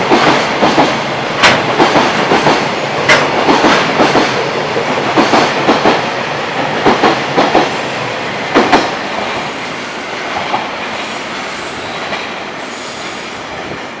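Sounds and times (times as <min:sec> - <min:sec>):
train rolling rumble: 0:00.0 - 0:14.0.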